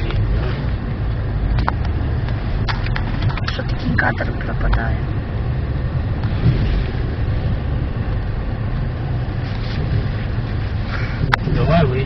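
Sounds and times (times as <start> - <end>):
car engine and tyres driving off-road: 0.0 - 12.0.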